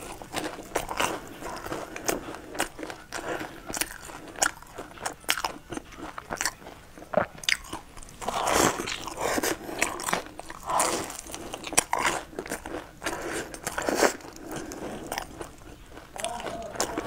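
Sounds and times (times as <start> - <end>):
chewing: 0.0 - 17.0
crunchy bites of bread: 0.0 - 17.0.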